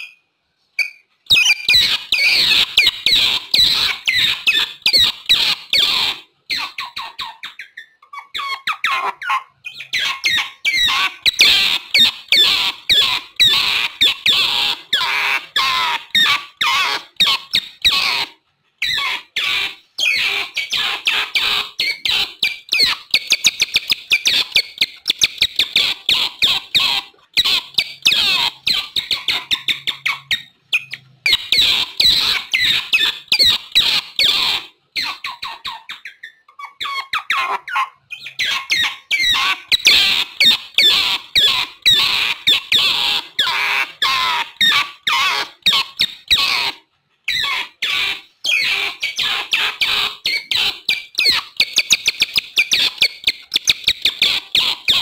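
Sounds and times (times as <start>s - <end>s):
otters chirping: 0.0s - 55.0s.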